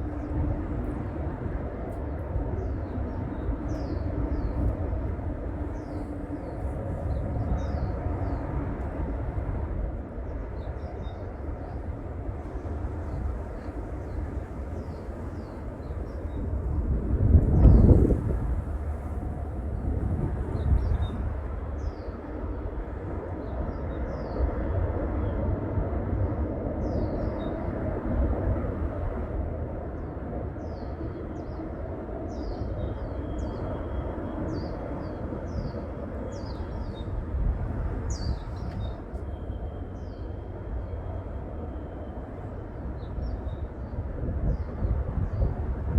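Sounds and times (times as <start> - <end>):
steady low rumble: 0.0 - 45.9.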